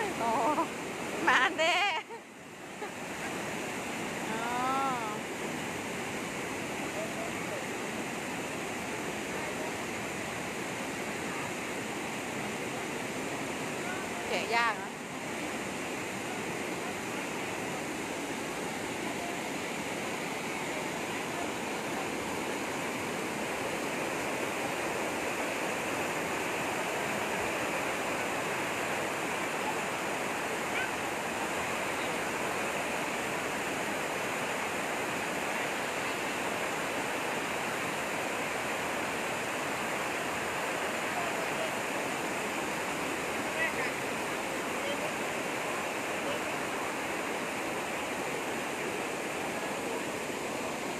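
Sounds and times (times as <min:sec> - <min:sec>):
fast-flowing water rushing: 0:00.0 - 0:50.9.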